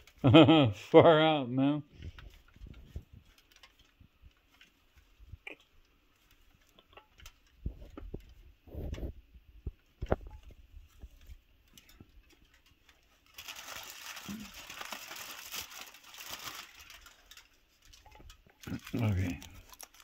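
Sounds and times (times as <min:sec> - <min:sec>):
aluminum foil crinkling: 0:00.0 - 0:00.9, 0:01.8 - 0:20.0
foil bumps and clicks: 0:01.9 - 0:20.0.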